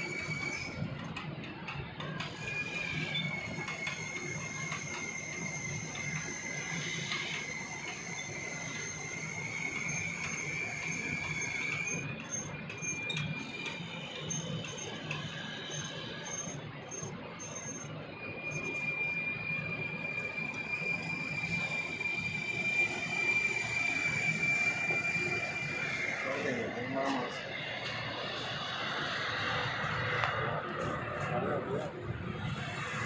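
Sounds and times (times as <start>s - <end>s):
winch squealing: 0.0s - 0.9s, 2.2s - 33.0s.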